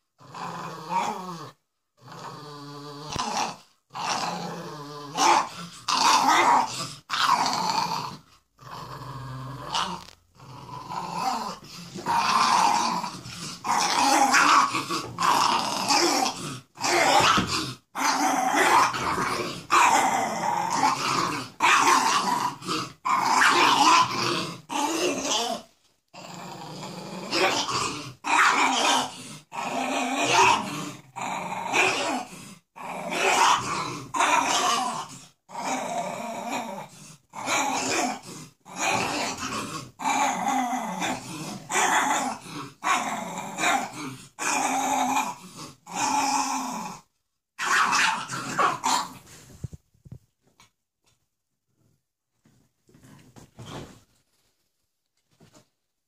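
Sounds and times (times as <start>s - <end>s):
dogs play growling: 0.2s - 47.0s, 51.8s - 54.4s.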